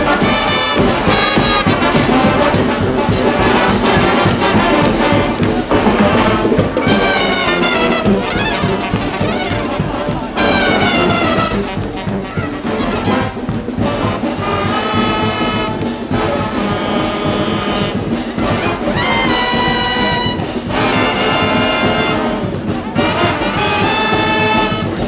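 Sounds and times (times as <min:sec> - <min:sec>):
brass band playing loudly: 0:00.0 - 0:25.0.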